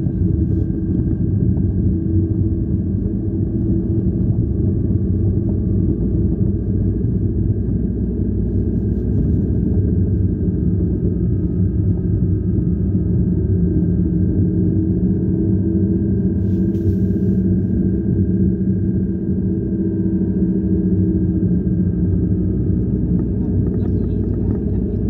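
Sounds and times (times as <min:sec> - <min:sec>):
engine and tyres rumbling: 0:00.0 - 0:25.0
faint steady whine: 0:00.0 - 0:25.0.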